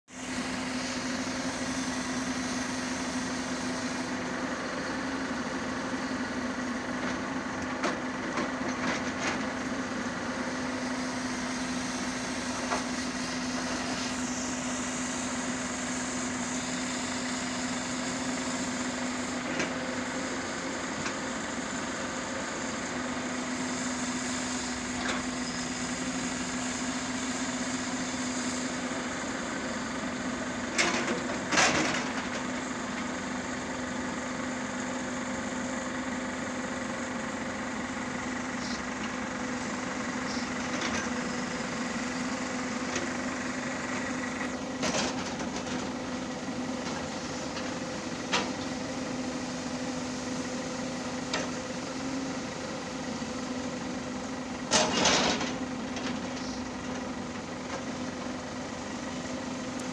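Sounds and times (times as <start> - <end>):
excavator diesel engine running: 0.1 - 59.9.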